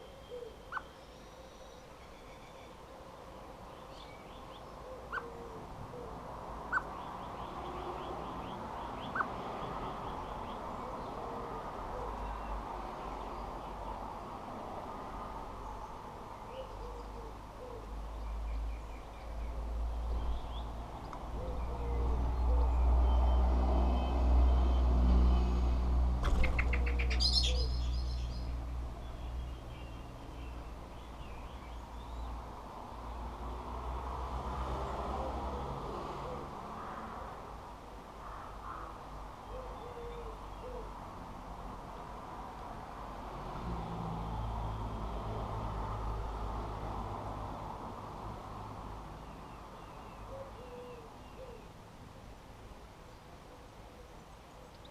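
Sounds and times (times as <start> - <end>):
garden birds chirping: 0.0 - 36.6, 37.9 - 41.1, 48.7 - 54.9.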